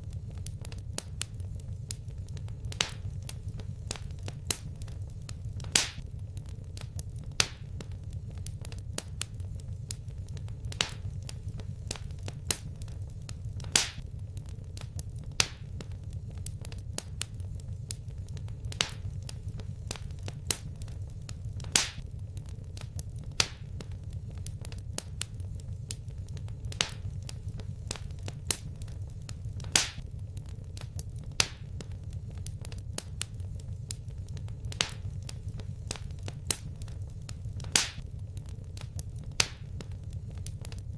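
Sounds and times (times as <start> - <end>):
fire low rumble: 0.0 - 40.9
wood fire crackling: 0.0 - 40.9.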